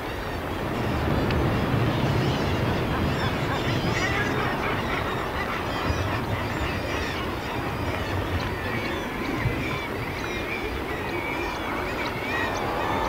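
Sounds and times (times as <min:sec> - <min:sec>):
seabirds calling harshly: 0:00.0 - 0:13.0.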